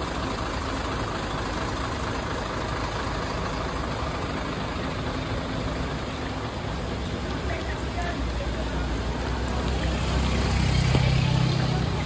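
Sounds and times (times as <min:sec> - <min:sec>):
continuous noise: 0:00.0 - 0:12.0
vehicle engine idling: 0:00.0 - 0:12.0.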